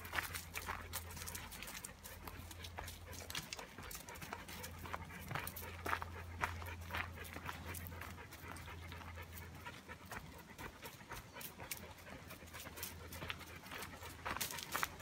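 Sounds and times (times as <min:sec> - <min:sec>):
dog panting: 0:00.0 - 0:15.0
footsteps on gravel: 0:00.0 - 0:15.0.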